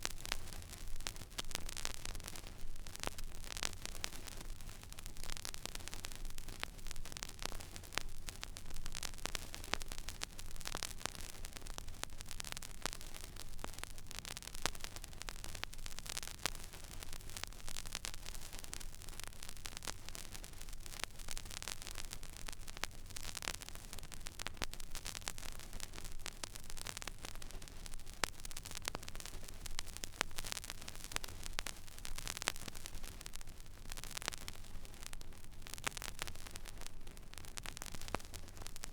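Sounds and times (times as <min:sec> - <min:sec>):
vinyl crackles and pops: 0:00.0 - 0:38.9.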